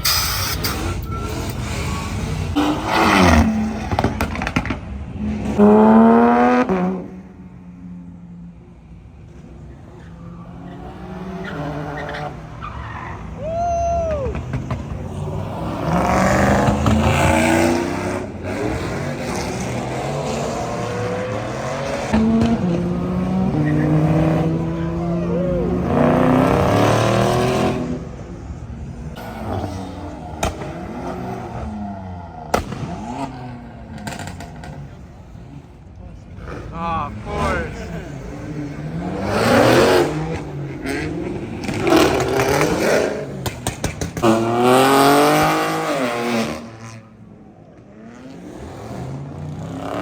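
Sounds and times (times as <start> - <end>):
tyres skidding and squealing: 0.0 - 7.2, 8.9 - 50.0
car engines revving hard: 0.0 - 50.0.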